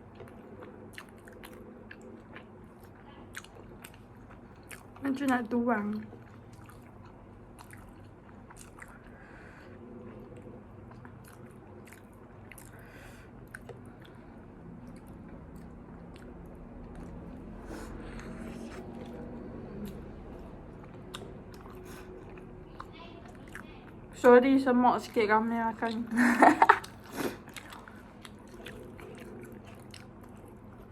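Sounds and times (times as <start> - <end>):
people chewing food: 0.0 - 30.9.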